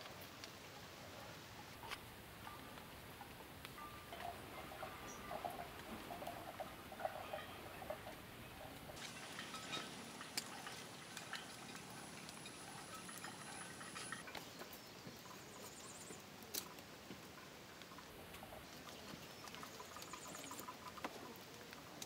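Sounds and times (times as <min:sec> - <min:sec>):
wooden sticks clicking and rustling: 0:01.8 - 0:22.0.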